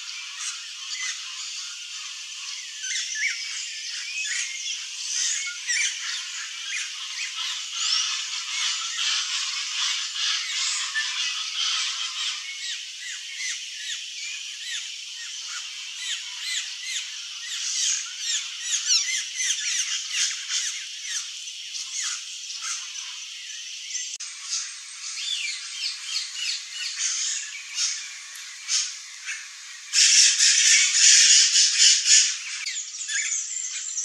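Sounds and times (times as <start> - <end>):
birds chirping and whistling: 0.0 - 34.0.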